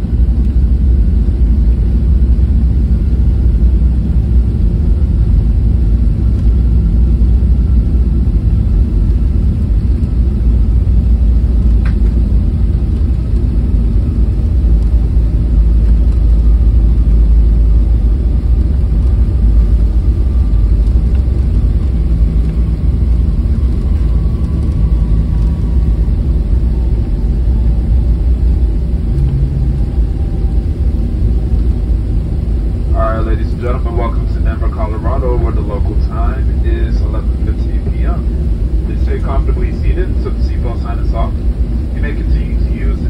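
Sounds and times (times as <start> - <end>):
high jet engine whine: 0.0 - 43.0
low aircraft rumble: 0.0 - 43.0.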